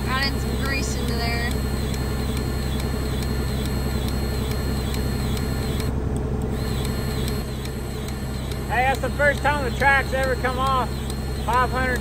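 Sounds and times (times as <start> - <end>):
cordless grease gun running: 0.0 - 12.0
excavator diesel engine running: 0.0 - 12.0.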